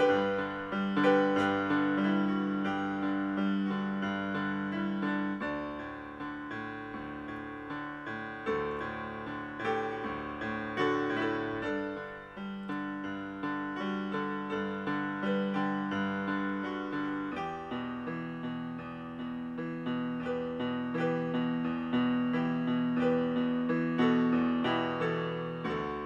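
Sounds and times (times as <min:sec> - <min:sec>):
solo piano music: 0:00.0 - 0:26.0.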